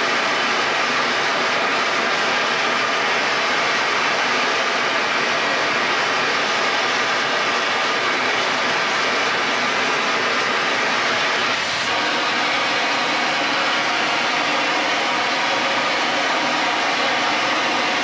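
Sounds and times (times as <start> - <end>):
cutting torch hissing: 0.0 - 18.0.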